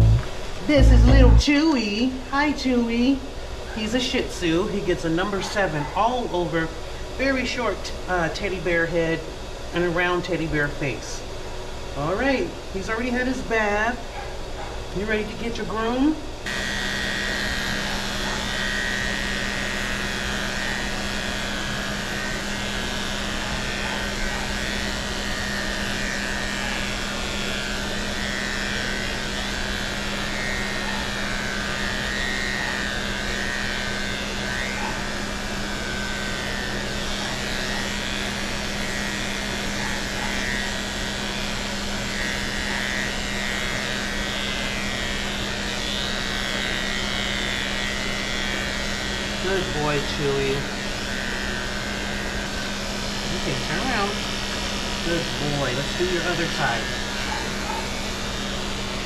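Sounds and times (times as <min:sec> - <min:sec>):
electric clippers motor hum: 0:00.0 - 0:59.0.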